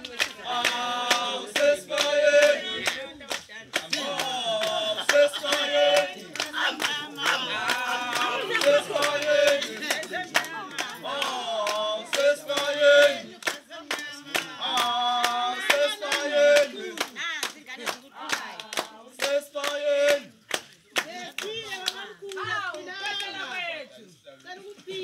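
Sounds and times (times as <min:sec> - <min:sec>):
hand claps: 0:00.0 - 0:23.6
group of people singing: 0:00.0 - 0:23.8.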